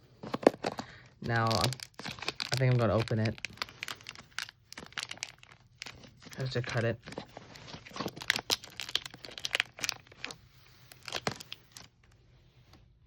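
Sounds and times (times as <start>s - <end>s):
packaging crinkling and tearing: 0.2s - 12.2s.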